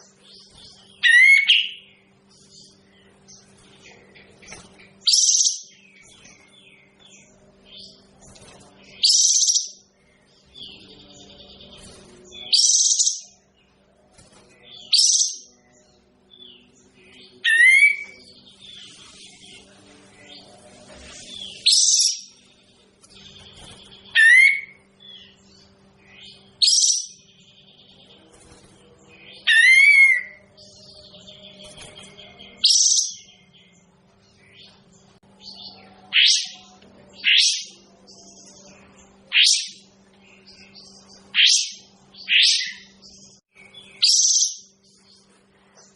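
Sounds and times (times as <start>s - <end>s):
low electrical hum: 0.0s - 45.9s.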